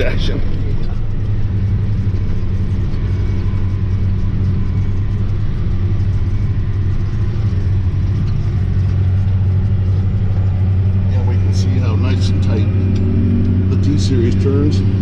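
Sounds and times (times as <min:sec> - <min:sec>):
diesel tractor engine drone: 0:00.0 - 0:15.0.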